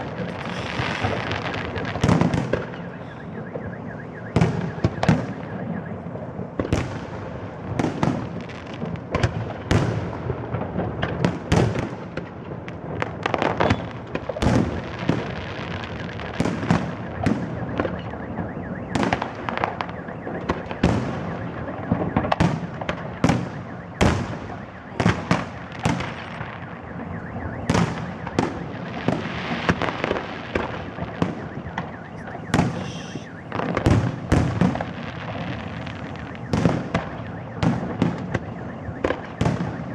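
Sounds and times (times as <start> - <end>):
fireworks crackling: 0.0 - 18.1, 19.1 - 39.9
fireworks bursts and bangs: 0.0 - 39.9.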